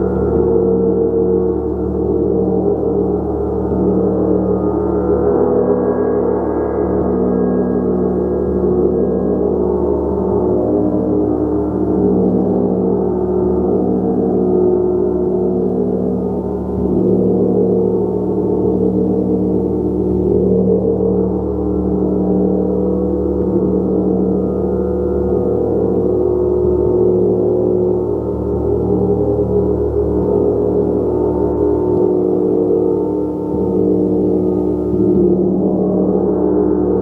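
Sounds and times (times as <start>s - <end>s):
gong humming and shimmering: 0.0s - 37.0s.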